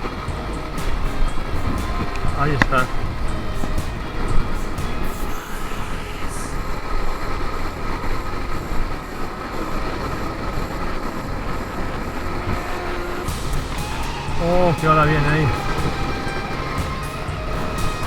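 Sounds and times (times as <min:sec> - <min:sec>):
surf crashing: 0:00.0 - 0:18.0
wind buffeting microphone: 0:00.0 - 0:18.0.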